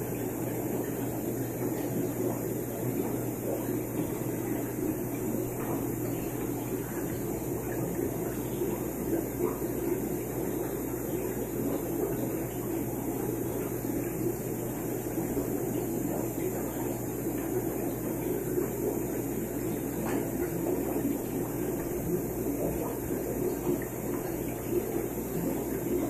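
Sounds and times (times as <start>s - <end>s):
air pump hum: 0.0s - 26.0s
aquarium air bubbling: 0.0s - 26.0s.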